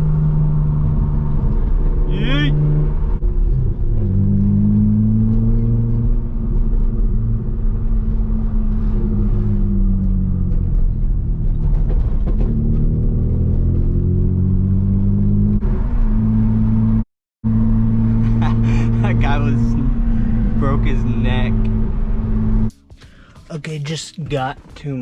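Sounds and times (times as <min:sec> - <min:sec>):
car engine and exhaust droning: 0:00.0 - 0:22.8.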